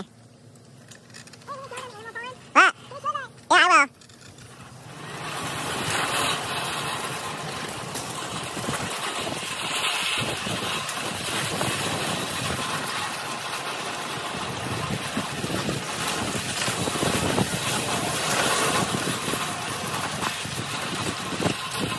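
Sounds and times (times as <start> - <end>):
wagon rolling and rattling on pavement: 0.0 - 21.9.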